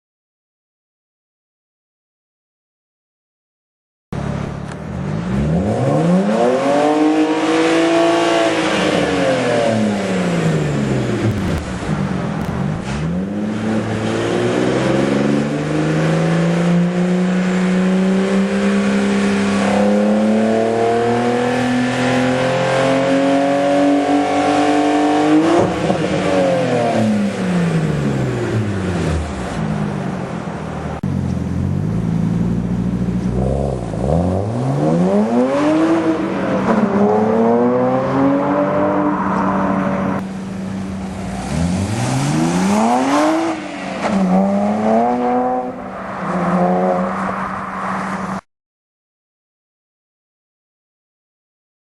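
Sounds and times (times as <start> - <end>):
car engine revving: 4.2 - 48.4.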